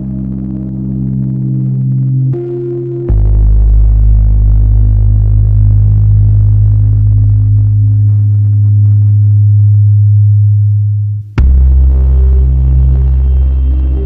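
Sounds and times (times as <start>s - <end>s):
low electronic drone: 0.0s - 14.0s.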